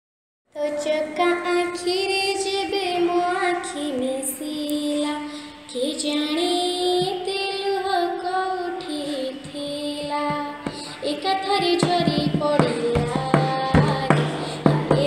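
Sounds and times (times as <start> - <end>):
girl singing devotional song: 0.5 - 15.0.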